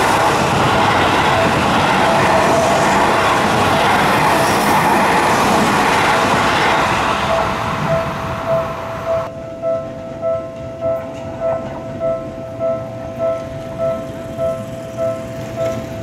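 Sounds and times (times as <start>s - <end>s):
crossing alarm bell ringing: 0.0s - 16.0s
train wheels on rails: 0.0s - 16.0s.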